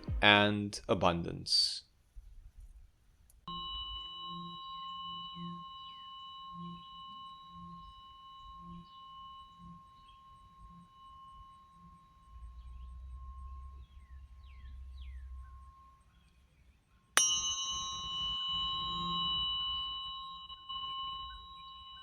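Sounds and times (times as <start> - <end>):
faint falling chirps: 3.5 - 22.0
struck bell tone ringing: 3.5 - 22.0.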